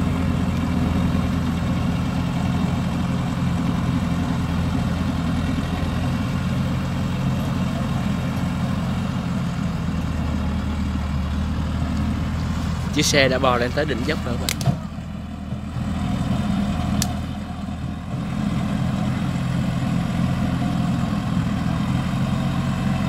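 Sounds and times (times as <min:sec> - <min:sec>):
truck diesel engine under load: 0:00.0 - 0:23.0.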